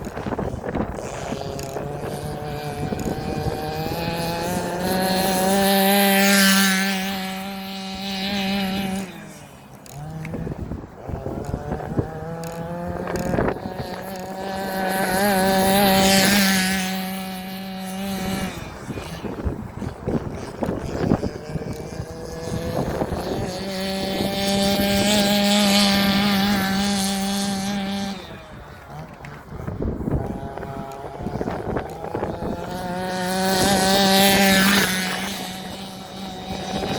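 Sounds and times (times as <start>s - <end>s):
rc car engine at high revs: 0.0s - 36.9s.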